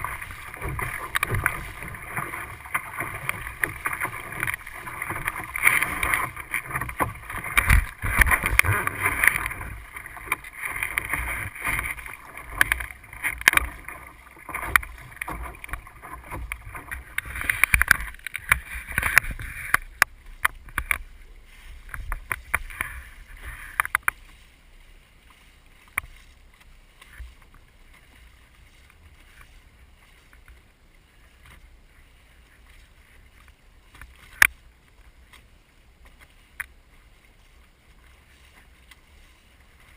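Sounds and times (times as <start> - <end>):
water splashing against boat hull: 0.0 - 39.9.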